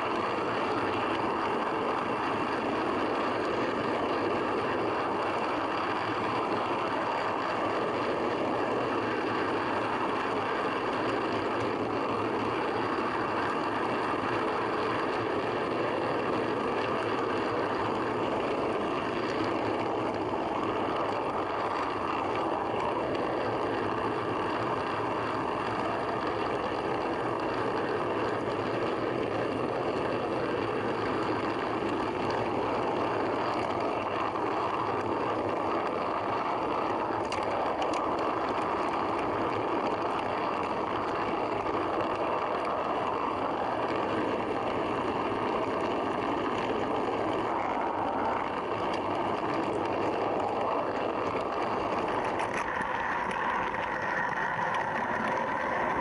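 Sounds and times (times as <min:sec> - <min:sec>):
model train wheels rumbling: 0:00.0 - 0:56.0
faint clicks: 0:05.6 - 0:56.0.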